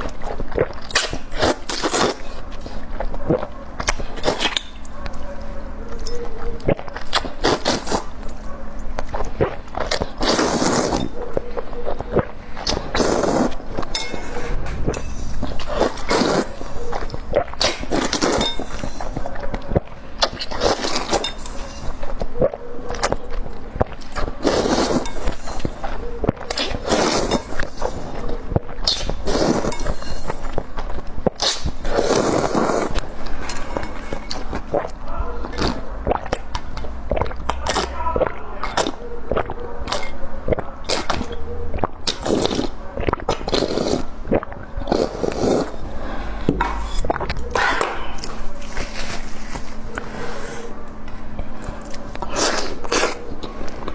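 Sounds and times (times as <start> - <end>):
crunching and chewing: 0.0 - 53.9.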